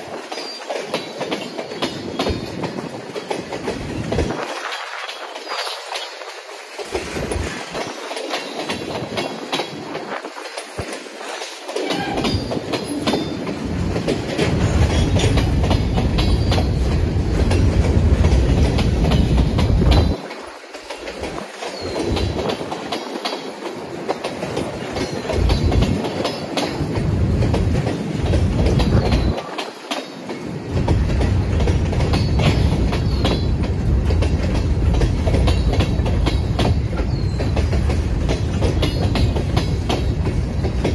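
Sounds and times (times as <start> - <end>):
train wheels clacking over rail joints: 0.0 - 40.9
wind buffeting microphone: 0.0 - 40.9.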